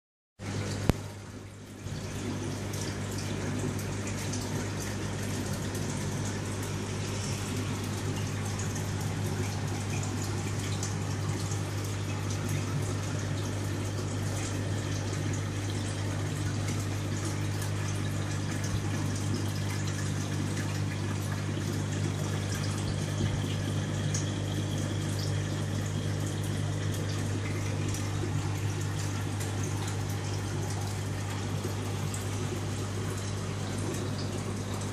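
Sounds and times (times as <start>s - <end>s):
aquarium water bubbling: 0.4s - 34.9s
pump humming: 0.4s - 34.9s.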